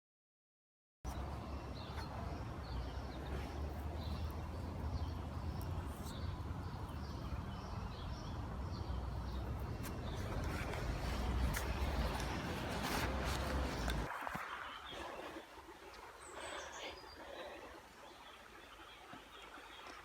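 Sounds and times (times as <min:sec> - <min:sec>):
small birds chirping: 0:01.1 - 0:20.0.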